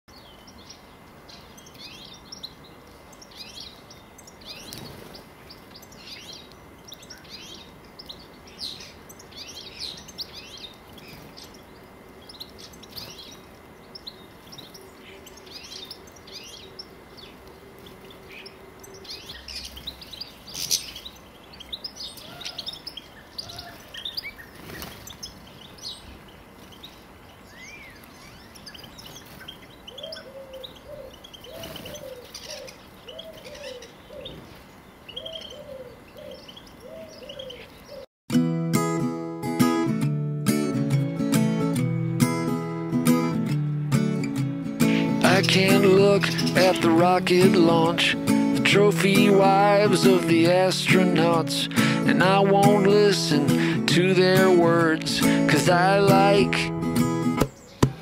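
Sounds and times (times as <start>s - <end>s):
small birds chirping: 0.1s - 38.1s, 44.1s - 58.0s.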